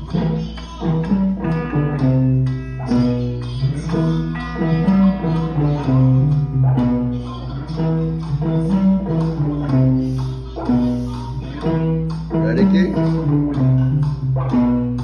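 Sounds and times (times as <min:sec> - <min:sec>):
guitars playing: 0:00.0 - 0:15.0.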